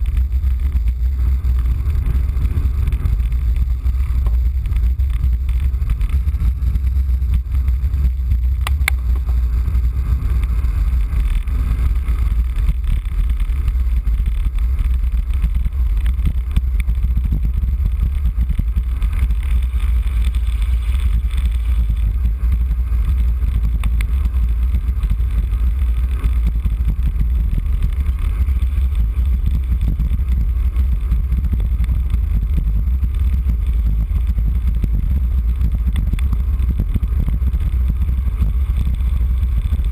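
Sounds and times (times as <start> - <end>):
road noise rush: 0.0 - 39.9
wind buffeting microphone: 0.0 - 39.9.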